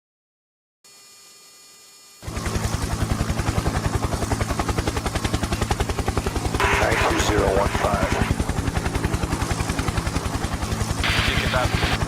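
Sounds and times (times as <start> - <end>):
helicopter rotor and engine: 2.0 - 12.0.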